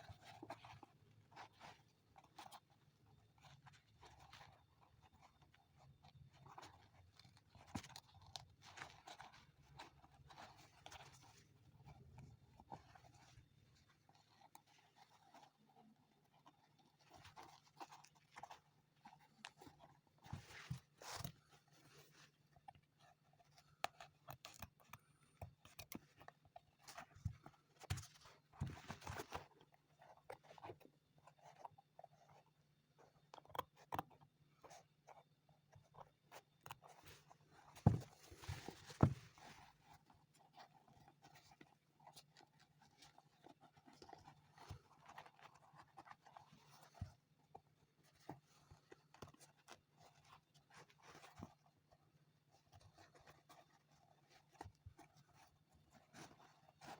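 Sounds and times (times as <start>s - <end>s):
tools scraping leather: 0.0s - 47.6s.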